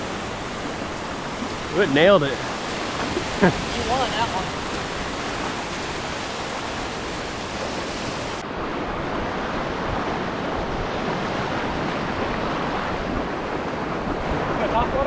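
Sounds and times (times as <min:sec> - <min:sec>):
small waves breaking in surf: 0:00.0 - 0:15.0
wind noise on microphone: 0:02.4 - 0:15.0.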